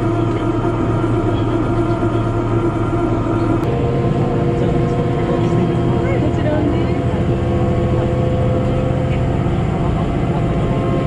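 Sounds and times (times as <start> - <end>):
diesel railcar engine hum: 0.0 - 11.0
rail noise: 0.0 - 11.0.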